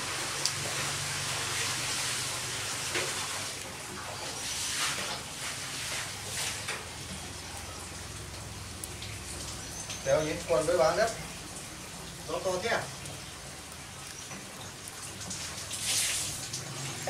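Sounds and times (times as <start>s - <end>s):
wood fire hissing: 0.0s - 17.0s.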